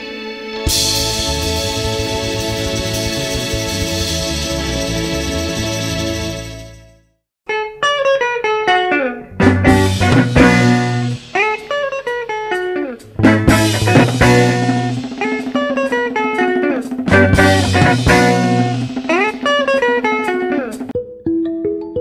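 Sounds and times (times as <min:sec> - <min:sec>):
guitar with bass and drums: 0:00.0 - 0:06.8, 0:07.5 - 0:21.0.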